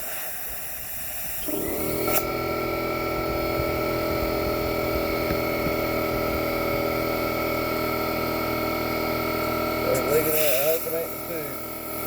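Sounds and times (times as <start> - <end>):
air compressor running: 0.0 - 12.0.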